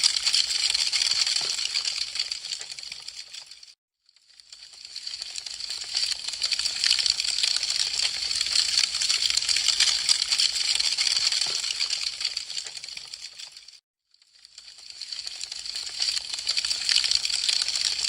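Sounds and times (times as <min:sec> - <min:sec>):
wood fire crackling: 0:00.0 - 0:03.7, 0:04.6 - 0:13.7, 0:14.5 - 0:18.0.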